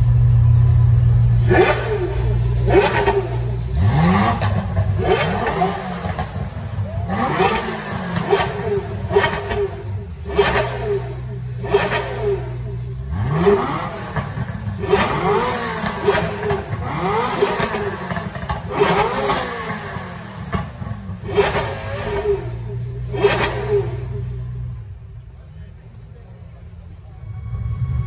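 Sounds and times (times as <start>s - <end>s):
sharp exhaust cracks: 0.0s - 24.7s
car engines idling and revving: 0.0s - 28.0s.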